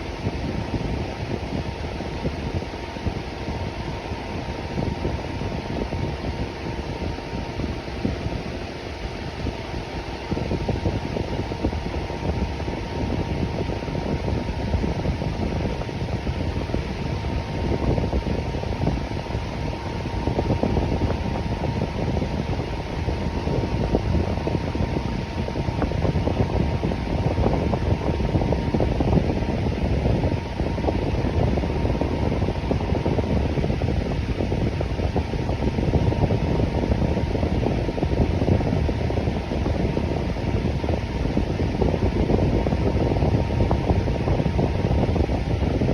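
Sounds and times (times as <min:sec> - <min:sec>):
electric fan whooshing: 0:00.0 - 0:45.9
faint steady hum: 0:00.0 - 0:45.9.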